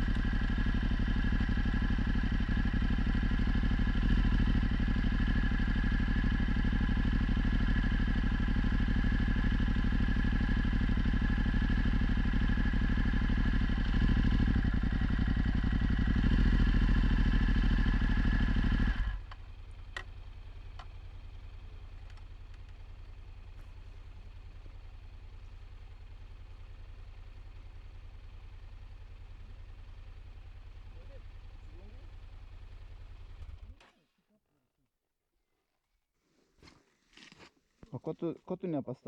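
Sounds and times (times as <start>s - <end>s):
motorcycle engine running: 0.0s - 33.8s.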